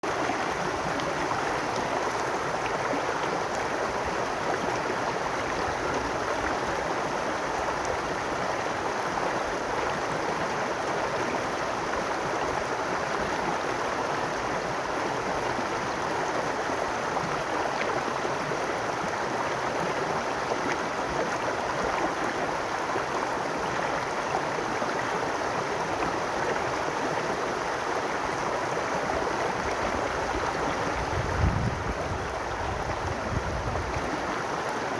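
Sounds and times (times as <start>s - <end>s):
water gurgling over stones: 0.1s - 34.9s.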